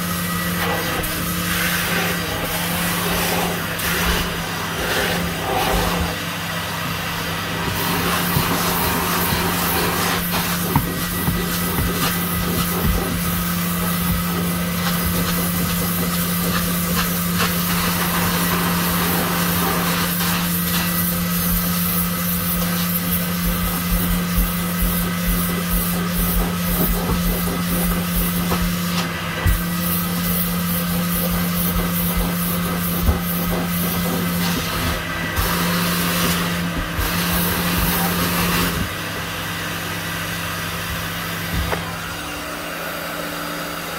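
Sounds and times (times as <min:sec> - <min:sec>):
carpet cleaning machine running: 0:00.0 - 0:43.9.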